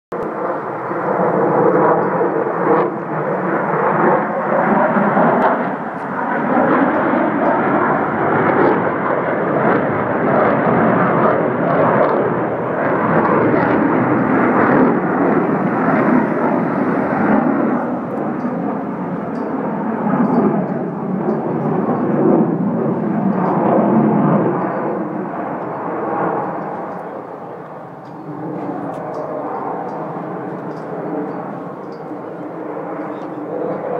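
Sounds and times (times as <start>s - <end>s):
jet flying overhead: 0.1s - 33.9s.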